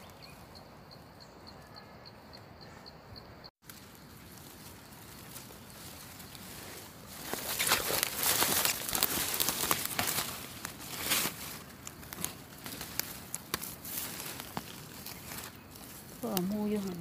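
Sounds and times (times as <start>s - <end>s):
rustling leaves and twigs: 0.0s - 1.7s, 3.6s - 17.0s.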